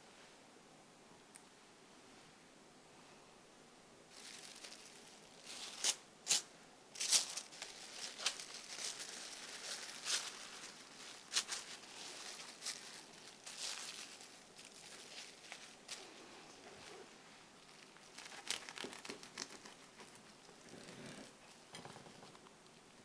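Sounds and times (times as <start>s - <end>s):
crinkling and rustling: 4.1s - 23.0s.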